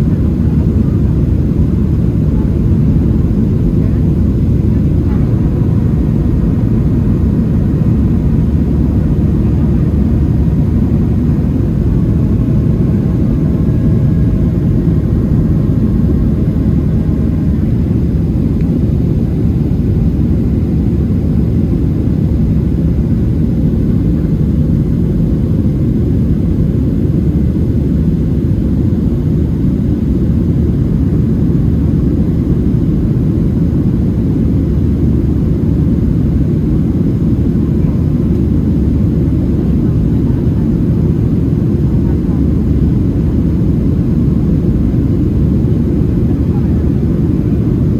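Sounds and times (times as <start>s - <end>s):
jet engine cabin drone: 0.0s - 47.9s.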